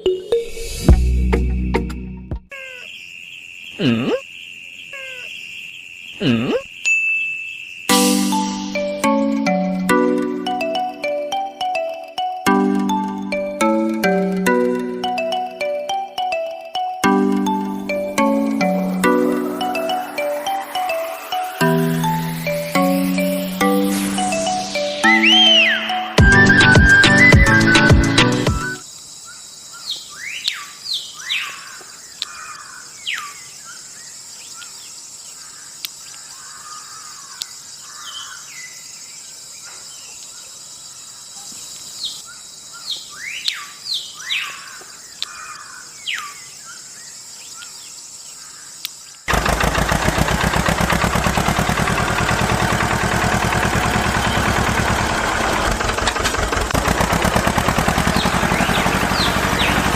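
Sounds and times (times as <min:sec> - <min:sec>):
birds chirping: 0:02.5 - 0:59.9.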